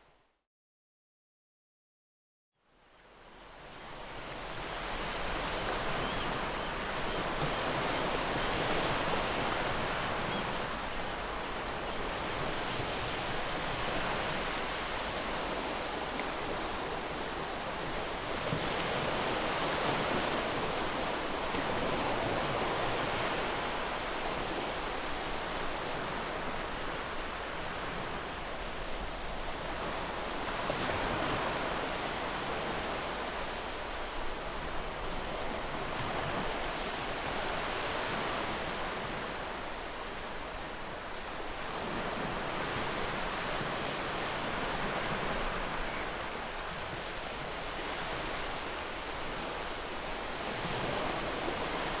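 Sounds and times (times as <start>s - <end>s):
sea surf washing on shore: 4.4s - 52.0s.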